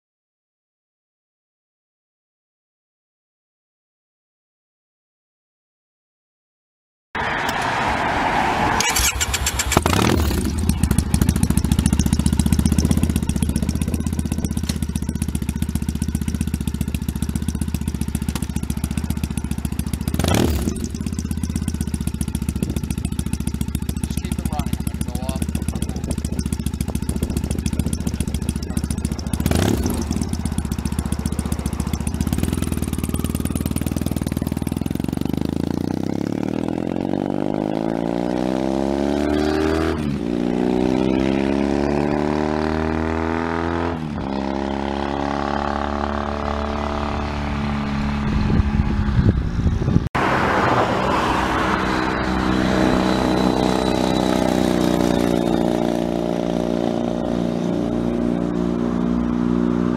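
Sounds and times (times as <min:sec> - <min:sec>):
motorcycle engine: 0:07.2 - 0:59.9.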